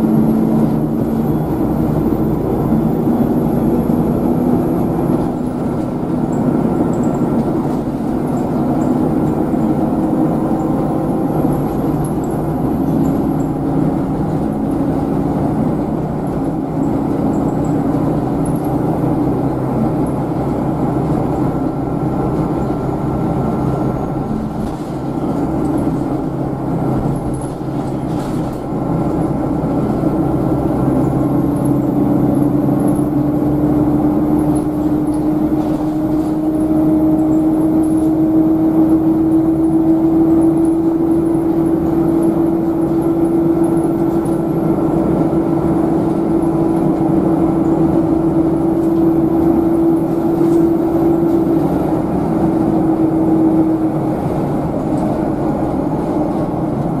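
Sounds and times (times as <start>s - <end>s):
bus engine and road noise: 0.0s - 57.0s
rising engine whine: 0.0s - 57.0s.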